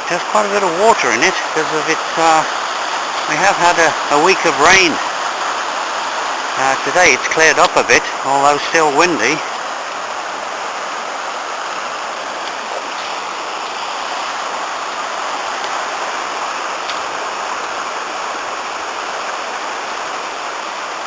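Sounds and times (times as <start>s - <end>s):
river water rushing over stones: 0.0s - 21.0s.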